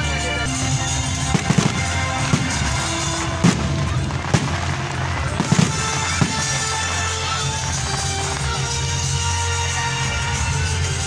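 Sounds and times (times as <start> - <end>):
fireworks bursting: 0.0 - 11.0
loud music: 0.0 - 11.0.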